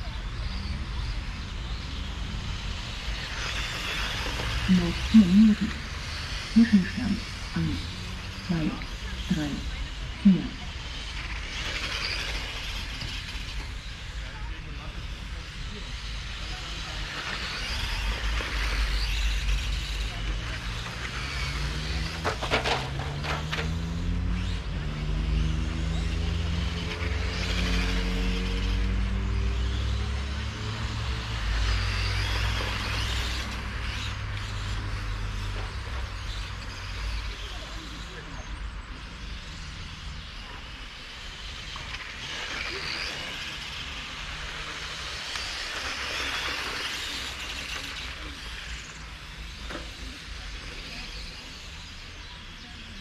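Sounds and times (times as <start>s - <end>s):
rc car motor and tyre whine: 0.0s - 53.0s.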